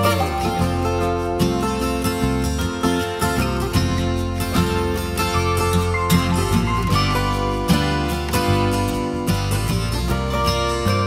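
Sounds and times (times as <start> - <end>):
light country acoustic guitar music: 0.0 - 11.0.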